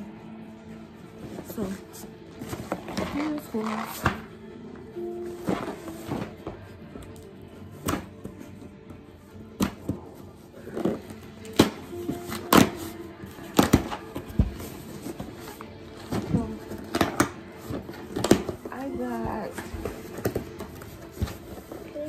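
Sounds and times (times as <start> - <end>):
quiet music: 0.0 - 22.0.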